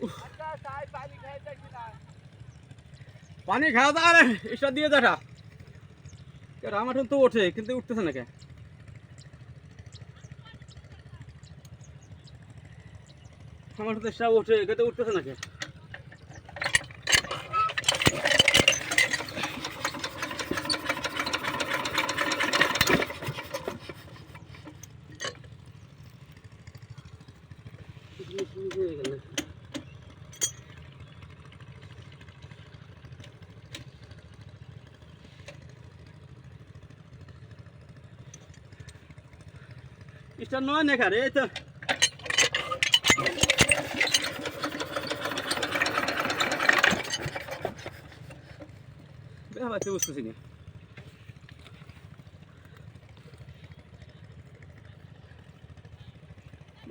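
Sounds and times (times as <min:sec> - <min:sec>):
small diesel water pump engine: 0:00.0 - 0:56.9.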